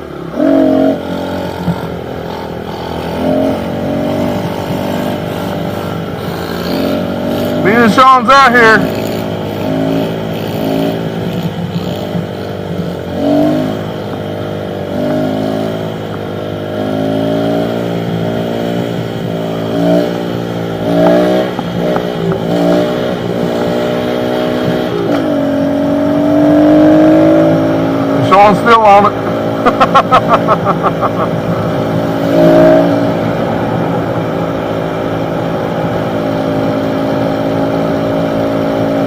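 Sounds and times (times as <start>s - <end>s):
small motorbike engines revving: 0.0s - 39.0s.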